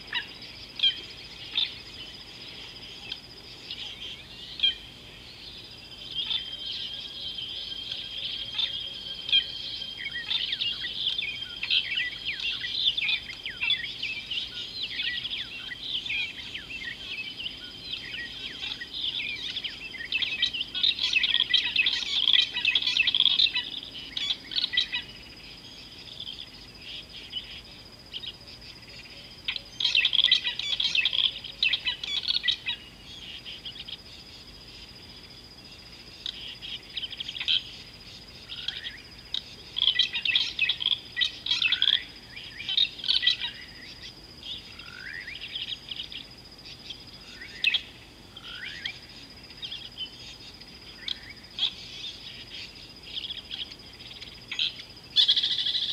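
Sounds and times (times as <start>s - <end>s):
birds chirping and twittering: 0.0s - 55.9s.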